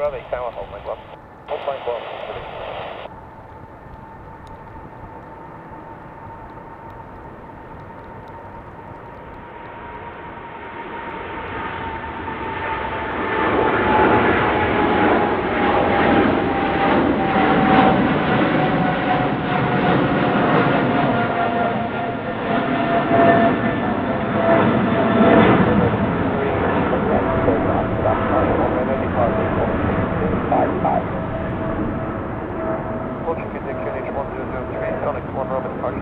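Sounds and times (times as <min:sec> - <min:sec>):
jet engine whine: 0:00.0 - 0:36.0
jet engines rumbling: 0:00.0 - 0:36.0.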